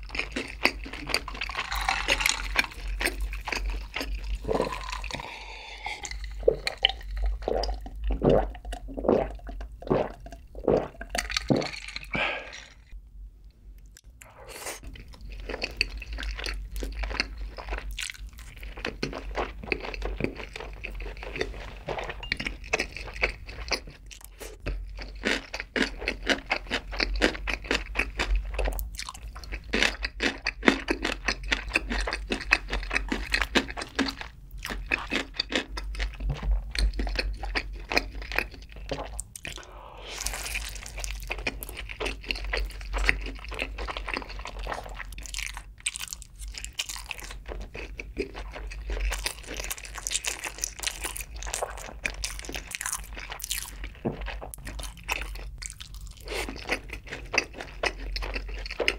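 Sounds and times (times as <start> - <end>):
crisp crunching and chewing: 0.0 - 13.0, 14.8 - 58.9.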